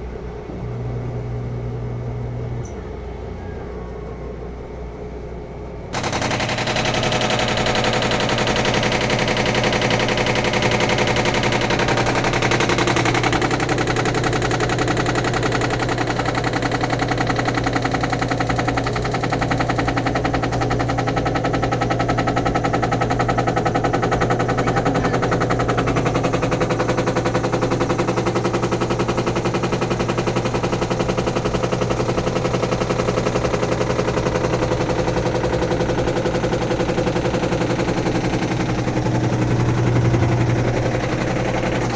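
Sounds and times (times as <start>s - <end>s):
washing machine rattling clatter: 5.9s - 41.9s.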